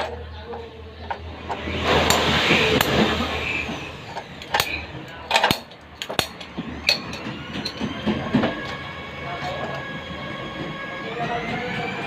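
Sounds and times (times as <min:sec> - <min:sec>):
noise: 0:00.0 - 0:10.8.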